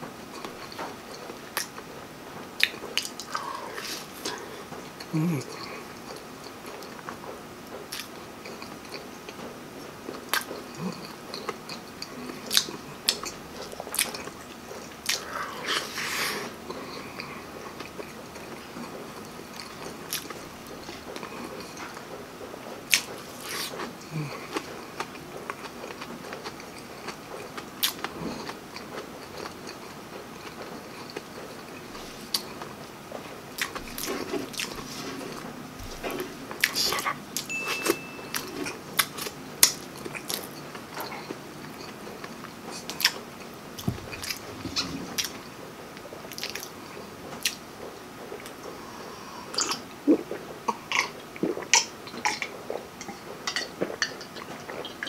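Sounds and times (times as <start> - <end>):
close chewing: 2.6 - 55.0.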